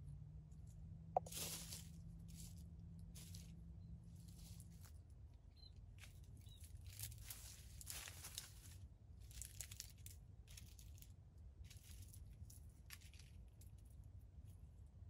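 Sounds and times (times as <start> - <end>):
rustling of dry leaves: 1.2 - 14.1.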